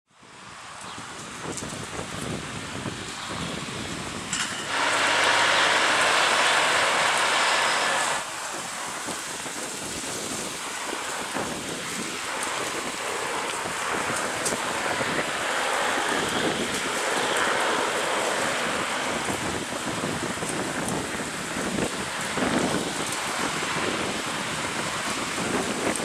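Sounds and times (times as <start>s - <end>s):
wind on microphone: 0.2s - 26.0s
helicopter rotor rushing: 1.1s - 26.0s.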